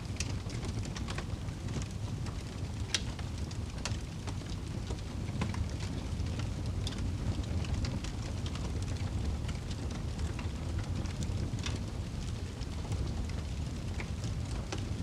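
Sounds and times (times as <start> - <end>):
fire rumbling in a fireplace: 0.0 - 15.0
logs crackling and popping: 0.0 - 15.0.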